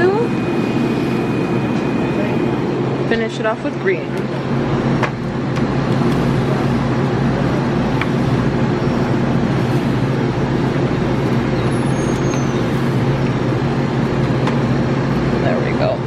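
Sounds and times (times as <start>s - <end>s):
bus engine humming: 0.0s - 15.4s
road noise: 0.0s - 15.6s.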